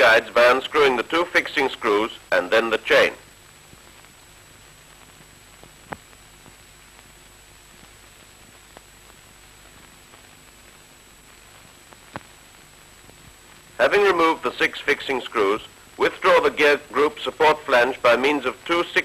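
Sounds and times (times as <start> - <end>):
film soundtrack hiss and hum: 0.0 - 19.0.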